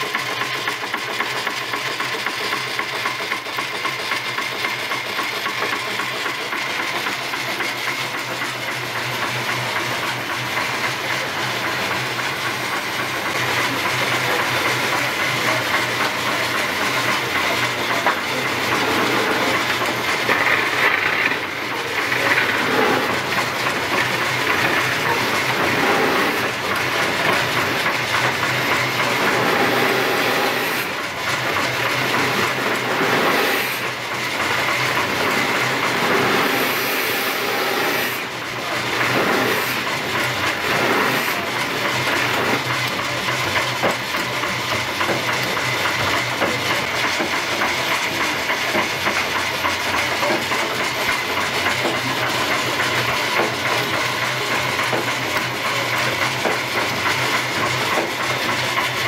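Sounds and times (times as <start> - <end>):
steam hissing: 0.0 - 59.0.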